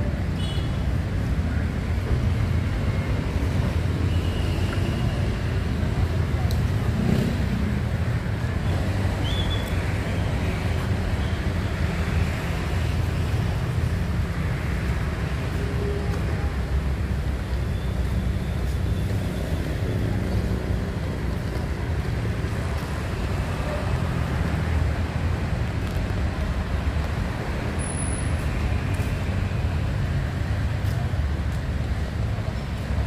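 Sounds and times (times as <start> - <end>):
low traffic rumble: 0.0 - 33.0
passing cars and motorbikes: 0.0 - 33.0.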